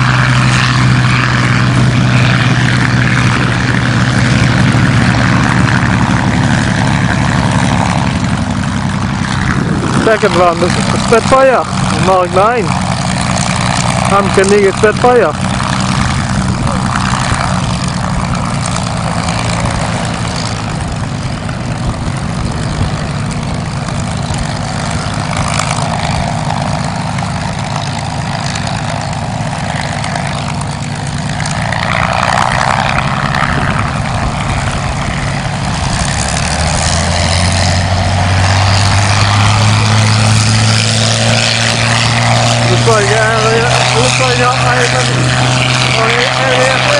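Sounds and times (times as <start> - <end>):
propeller plane engine idling: 0.0 - 46.9.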